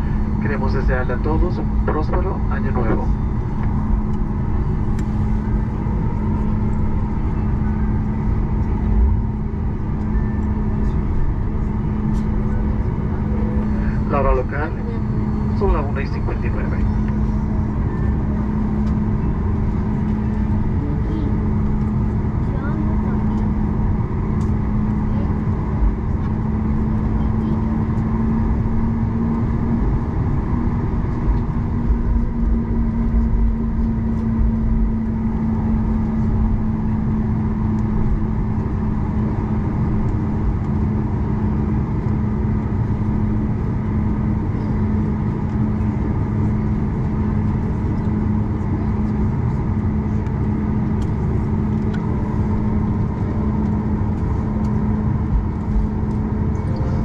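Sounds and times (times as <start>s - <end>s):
airplane cabin engine hum: 0.0s - 57.0s.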